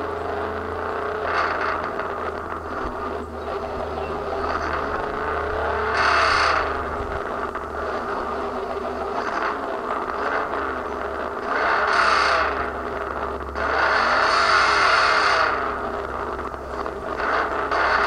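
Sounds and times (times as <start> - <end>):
truck engine idling and revving: 0.0 - 18.0.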